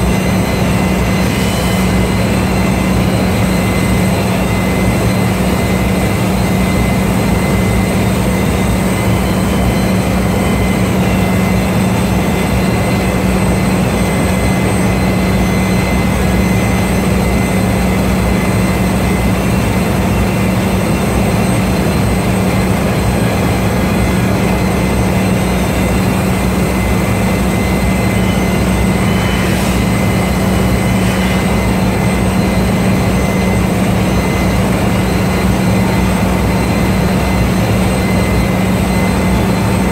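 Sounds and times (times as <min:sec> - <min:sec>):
engine room machinery drone: 0:00.0 - 0:39.9
faint high whines: 0:00.0 - 0:39.9.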